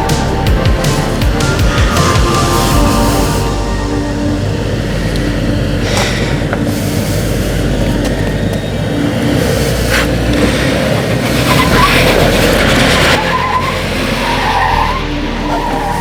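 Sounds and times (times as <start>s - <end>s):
engine working under load: 0.0s - 16.0s.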